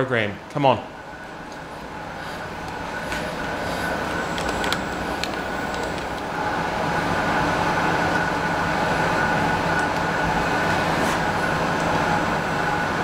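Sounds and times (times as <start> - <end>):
machine hum and whir: 0.0 - 13.0.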